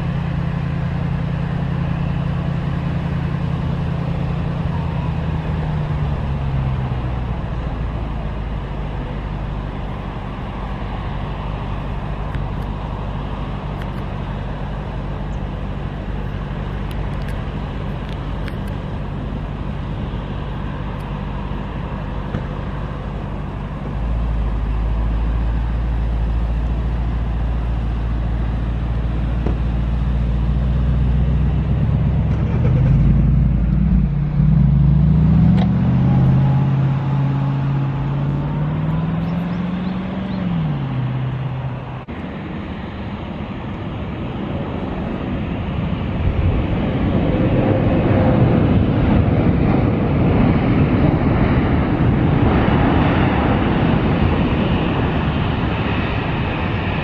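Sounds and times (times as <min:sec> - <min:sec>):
deep rumble: 0:00.0 - 0:57.0
jet engine roar: 0:00.0 - 0:57.0
wavering engine hum: 0:00.0 - 0:57.0.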